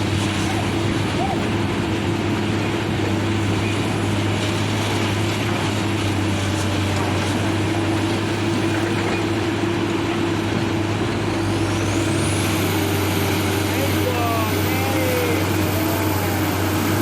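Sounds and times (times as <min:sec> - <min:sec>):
diesel engine running steadily: 0:00.0 - 0:17.0.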